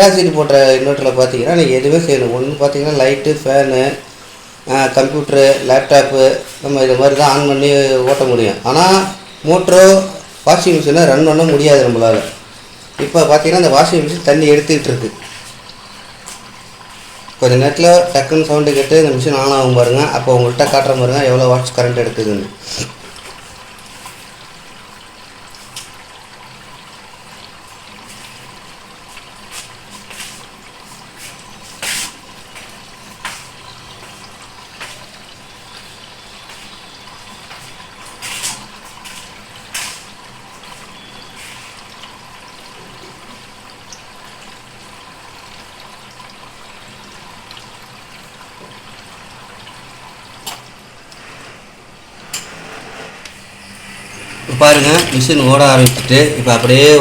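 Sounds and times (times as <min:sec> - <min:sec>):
water rushing into tub: 0:00.0 - 0:57.0.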